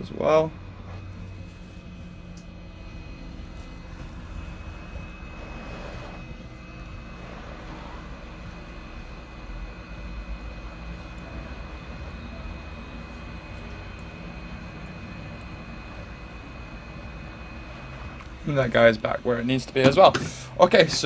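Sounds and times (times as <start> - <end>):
hot air station blowing with whine: 0.0 - 21.0.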